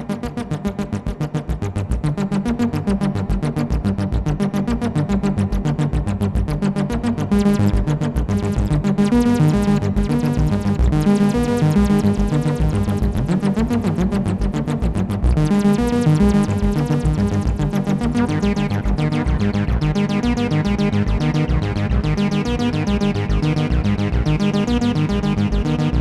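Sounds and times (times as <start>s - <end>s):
synthesizer bass arpeggio: 0.0s - 26.0s.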